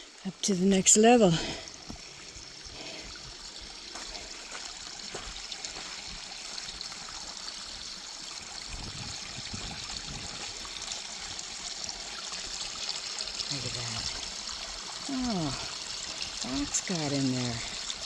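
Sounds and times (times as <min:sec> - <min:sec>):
water trickling over rocks: 0:00.0 - 0:18.0.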